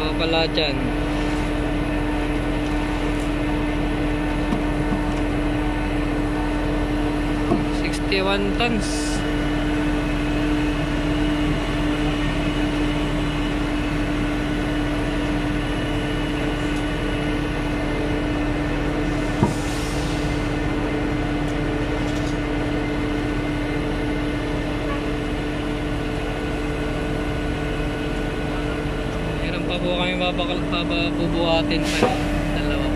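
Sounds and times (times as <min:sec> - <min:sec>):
crane engine and hydraulics droning: 0:00.0 - 0:32.9.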